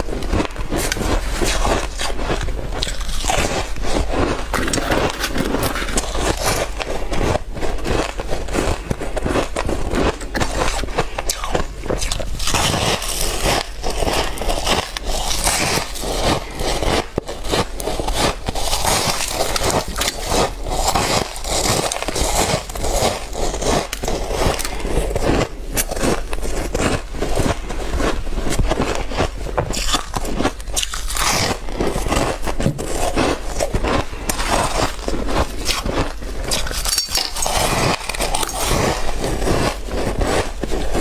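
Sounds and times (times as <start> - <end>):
ice being bitten and crunched: 0.0 - 41.0.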